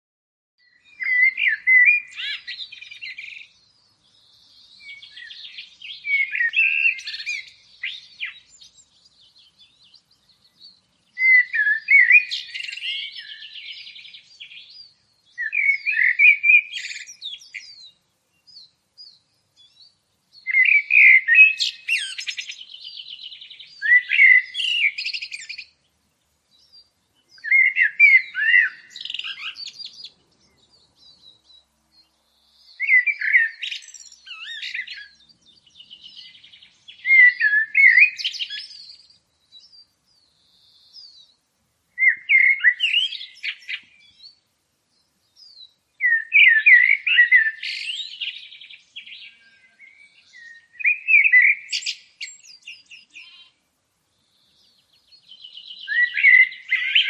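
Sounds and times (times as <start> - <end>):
songbird warbling: 0.6 - 3.6, 4.2 - 17.9, 20.4 - 25.8, 26.6 - 31.5, 32.3 - 41.2, 42.0 - 44.4, 45.4 - 53.6, 54.2 - 57.0.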